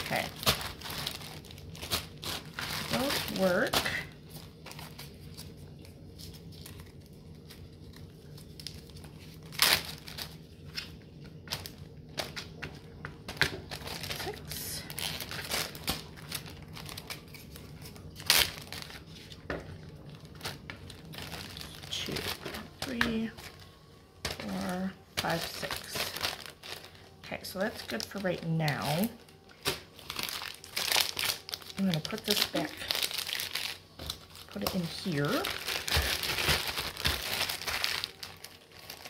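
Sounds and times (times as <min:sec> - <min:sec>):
plastic bags crinkling: 0:00.0 - 0:39.0
steady low hum: 0:00.0 - 0:39.0.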